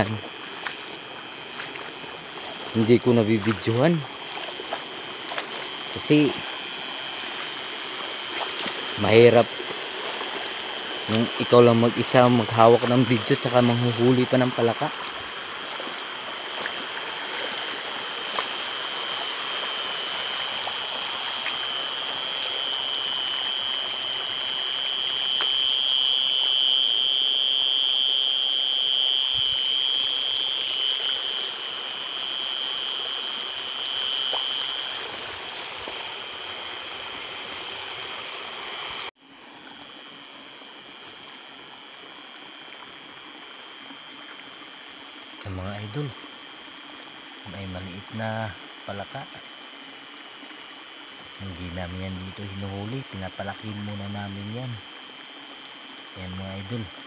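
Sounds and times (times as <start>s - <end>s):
constant hiss: 0.0s - 57.0s
shrill chorus of night insects: 0.0s - 57.0s.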